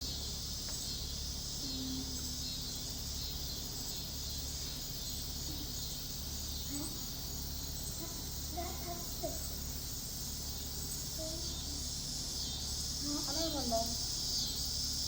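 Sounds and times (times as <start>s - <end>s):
crickets chirping: 0.0s - 15.0s
low even hum: 0.0s - 15.0s.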